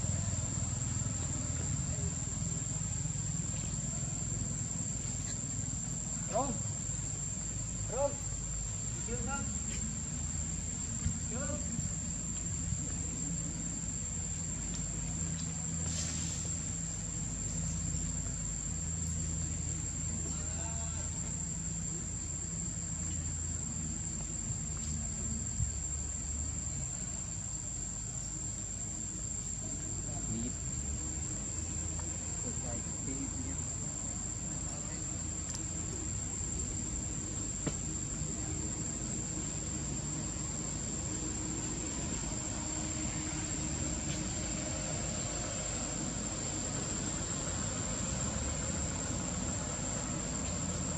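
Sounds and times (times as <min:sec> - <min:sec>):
high-pitched insect drone: 0:00.0 - 0:50.9
low even hiss: 0:00.0 - 0:50.9.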